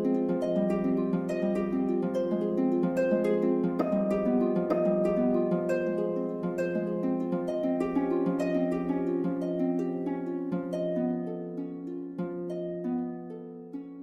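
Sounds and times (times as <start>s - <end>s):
harp-like plucked notes: 0.0s - 14.0s.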